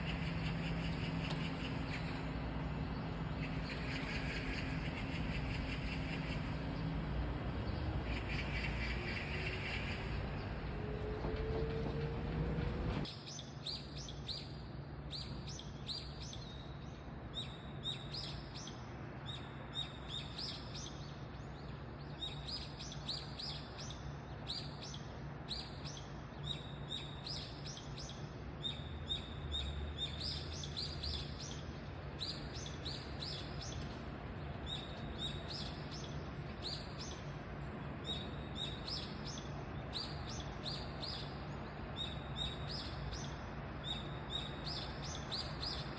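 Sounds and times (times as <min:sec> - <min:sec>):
city traffic hum: 0:00.0 - 0:45.9.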